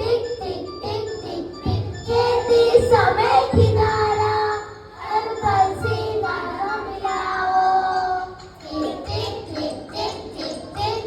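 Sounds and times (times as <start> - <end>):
children singing: 0.0 - 11.0
musical accompaniment with beat: 0.0 - 11.0.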